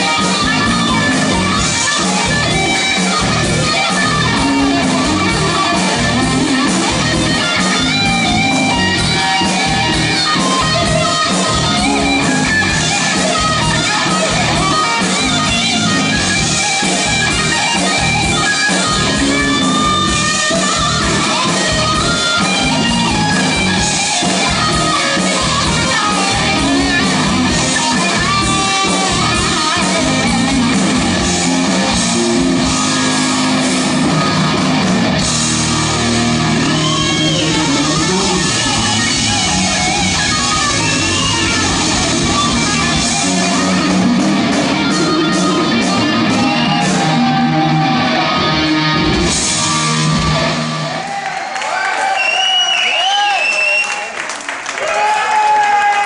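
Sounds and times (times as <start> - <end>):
live rock band playing: 0.0 - 51.2
electric guitar: 0.0 - 53.8.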